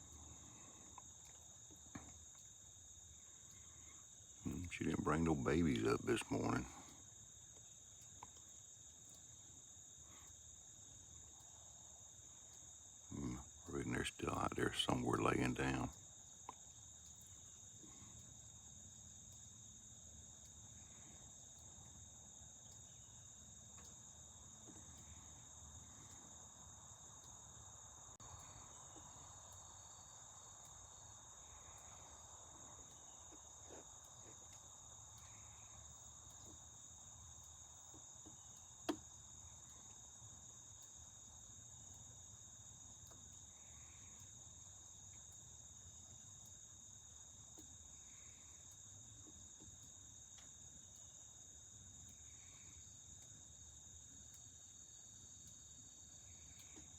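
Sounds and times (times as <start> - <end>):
insect chorus chirring: 0.0 - 56.9.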